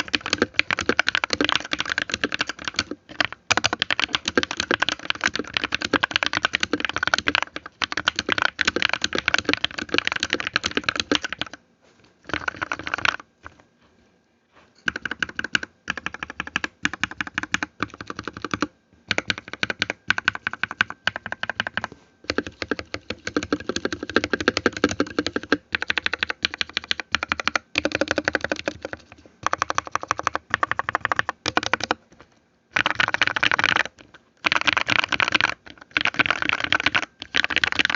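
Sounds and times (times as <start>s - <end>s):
fast typing on mechanical keyboard: 0.0s - 11.6s, 12.2s - 13.3s, 14.9s - 32.0s, 32.7s - 37.9s.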